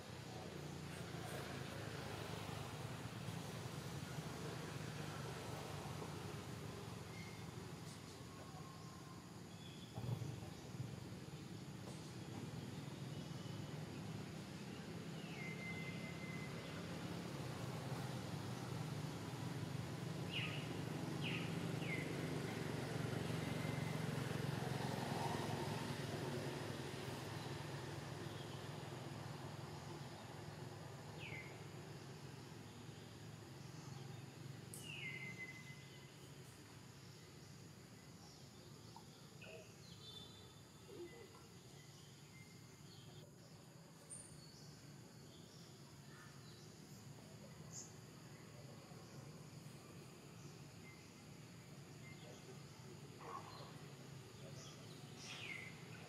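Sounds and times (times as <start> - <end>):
low outdoor hum: 0.0 - 56.0
high bird or insect chirps: 5.6 - 56.0.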